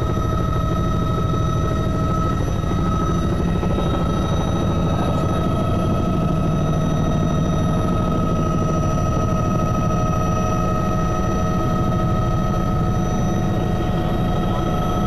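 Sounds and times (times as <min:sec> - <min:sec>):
helicopter engine whine: 0:00.0 - 0:15.0
helicopter rotor beat: 0:00.0 - 0:15.0.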